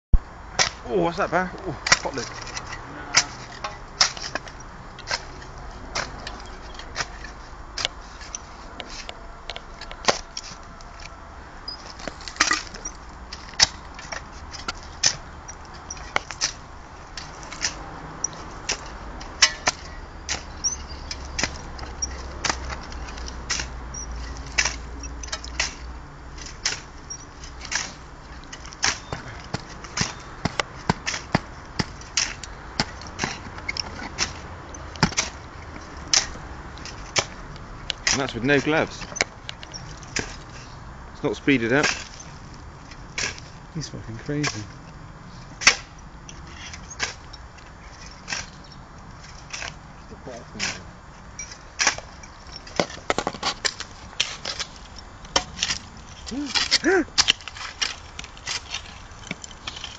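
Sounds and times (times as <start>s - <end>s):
digging tool striking earth: 0.1s - 44.8s, 45.4s - 59.9s.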